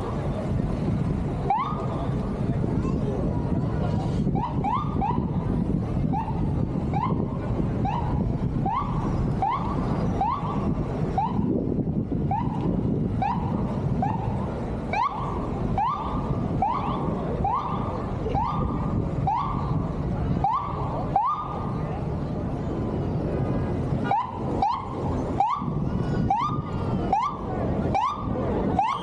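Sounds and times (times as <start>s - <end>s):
crowd noise: 0.0s - 29.0s
traffic noise: 0.0s - 29.0s
emergency siren whooping: 1.4s - 2.2s, 4.3s - 21.8s, 24.0s - 29.0s.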